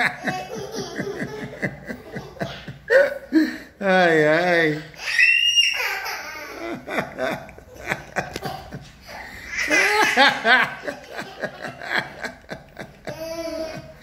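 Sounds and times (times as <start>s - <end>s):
child laughing: 0.0s - 3.4s, 4.9s - 14.0s.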